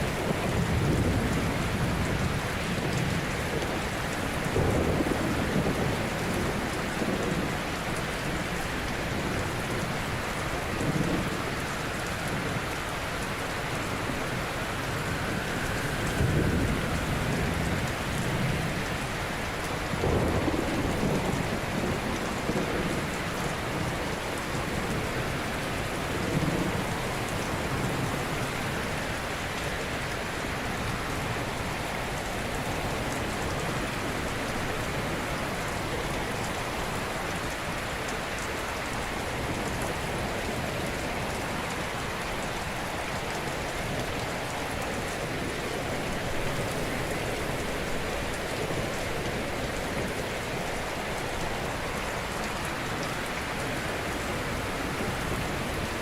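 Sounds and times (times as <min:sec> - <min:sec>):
ocean surf washing on shore: 0:00.0 - 0:56.0.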